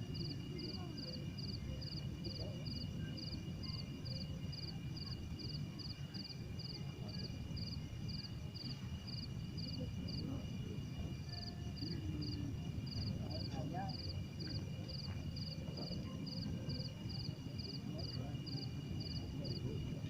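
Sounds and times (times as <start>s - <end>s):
insect chirping: 0.1s - 20.0s.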